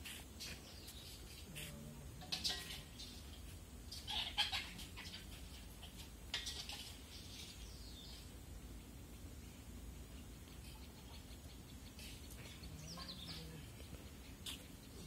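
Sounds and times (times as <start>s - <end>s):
scratchy bird calls: 0.0s - 8.3s, 10.1s - 15.0s.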